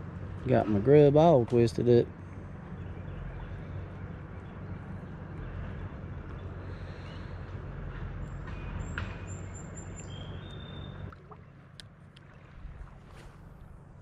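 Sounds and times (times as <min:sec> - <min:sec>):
traffic rumble overhead: 0:00.0 - 0:14.0.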